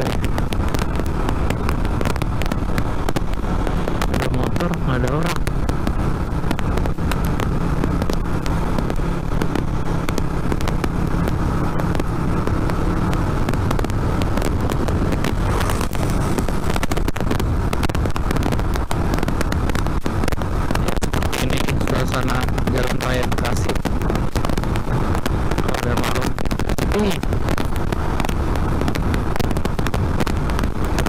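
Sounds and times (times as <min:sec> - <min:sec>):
motorcycle engine cruising: 0:00.0 - 0:31.0
road and wind noise: 0:00.0 - 0:31.0.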